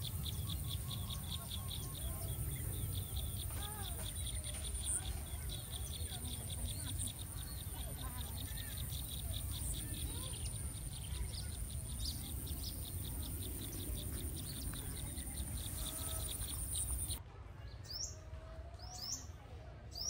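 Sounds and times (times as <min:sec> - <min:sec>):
insects chirping: 0:00.0 - 0:17.2
low outdoor rumble: 0:00.0 - 0:17.2.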